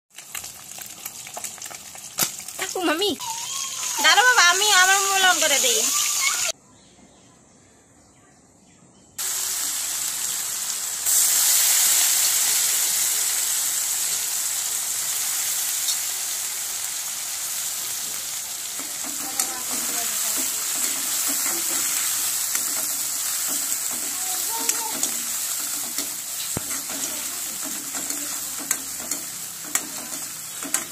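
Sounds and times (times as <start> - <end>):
onions sizzling in oil: 0.1 - 6.6, 9.2 - 30.9.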